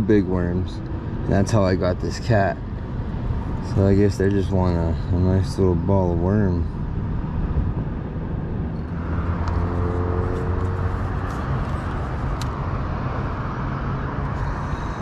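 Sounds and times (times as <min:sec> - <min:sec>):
low rumble of road traffic: 0:00.0 - 0:15.0
passing vehicle hum: 0:00.0 - 0:15.0.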